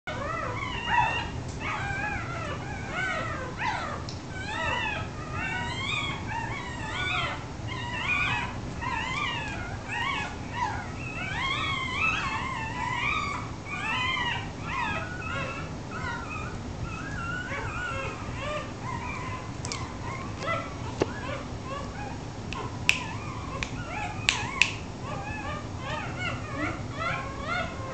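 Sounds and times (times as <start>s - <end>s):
puppies squeaking and crying: 0.1s - 27.9s
steady low hum: 0.1s - 27.9s.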